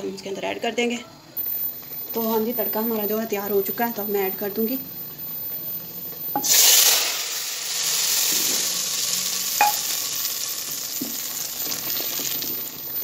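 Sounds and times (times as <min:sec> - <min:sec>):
hot oil sizzling in a pot: 0:01.4 - 0:13.0.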